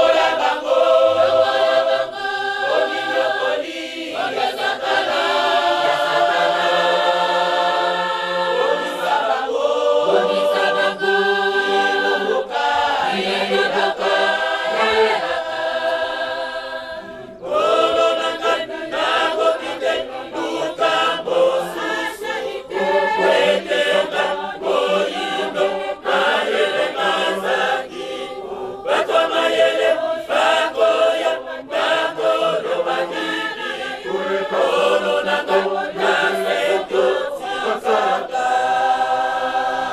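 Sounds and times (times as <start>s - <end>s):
women's choir singing a hymn: 0.0s - 39.9s.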